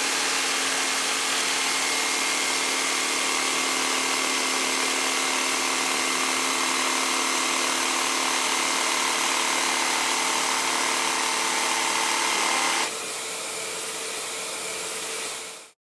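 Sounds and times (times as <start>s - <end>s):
electric jigsaw cutting plywood: 0.0s - 15.8s.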